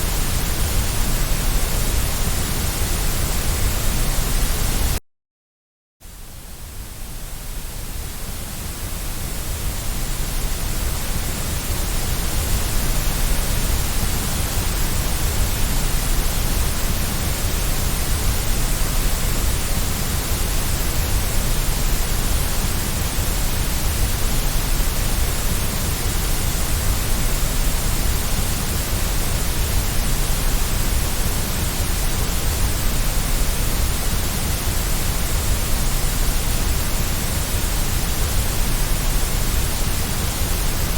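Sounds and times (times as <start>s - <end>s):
white noise hiss: 0.0s - 5.0s, 6.0s - 40.9s.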